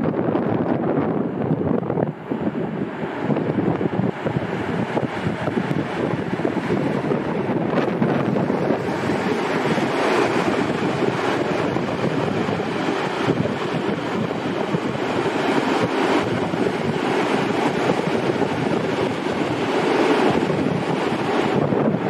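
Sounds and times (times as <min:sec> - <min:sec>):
steel train wheels on rails: 0:00.0 - 0:22.0.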